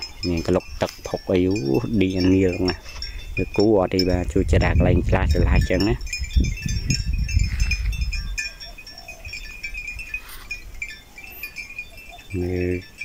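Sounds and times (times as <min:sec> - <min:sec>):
cattle bells clinking: 0:00.0 - 0:13.0.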